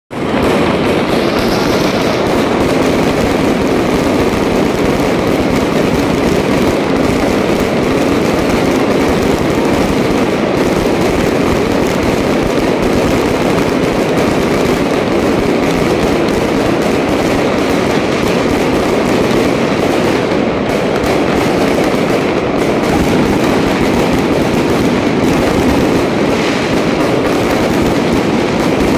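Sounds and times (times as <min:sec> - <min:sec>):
fireworks bursting: 0:00.1 - 0:28.9.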